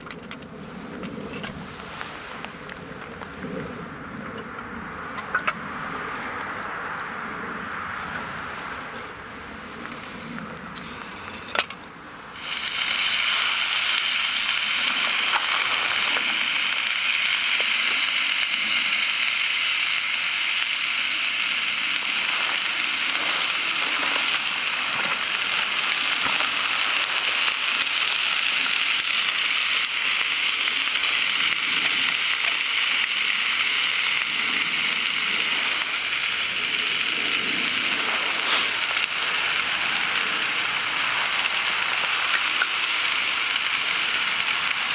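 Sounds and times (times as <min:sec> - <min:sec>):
loud sizzling hiss: 0:00.8 - 0:04.1, 0:05.1 - 0:44.9.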